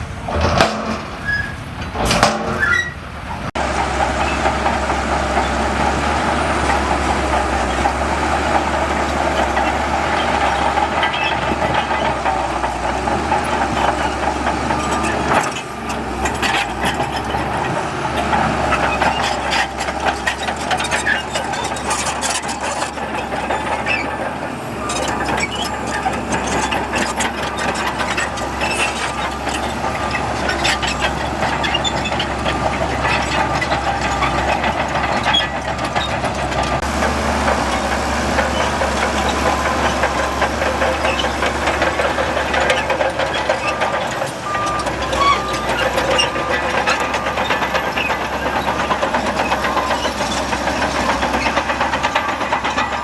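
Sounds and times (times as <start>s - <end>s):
heavy diesel machinery running: 0.0s - 53.0s
metallic rattles and knocks: 0.3s - 2.9s, 3.5s - 53.0s.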